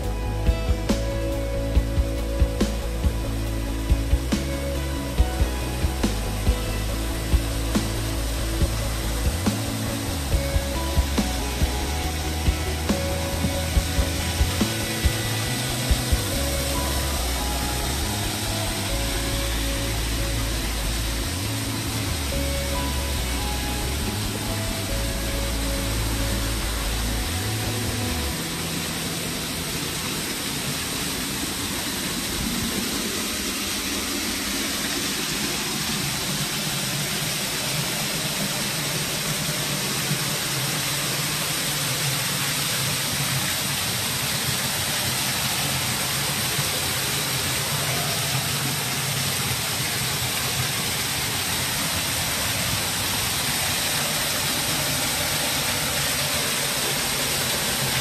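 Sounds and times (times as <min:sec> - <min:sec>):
waterfall splashing on rock: 0:00.8 - 0:58.0.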